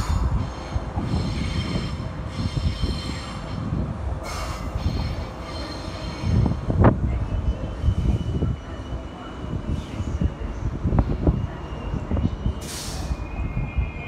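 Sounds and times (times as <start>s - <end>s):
train wheels squealing: 0.0s - 10.2s, 11.0s - 14.0s
train rumbling past: 0.0s - 14.0s.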